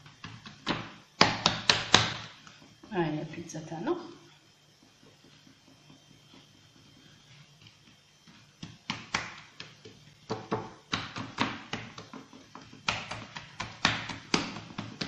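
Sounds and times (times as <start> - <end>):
hands patting dough: 0.0 - 3.0, 4.7 - 15.0.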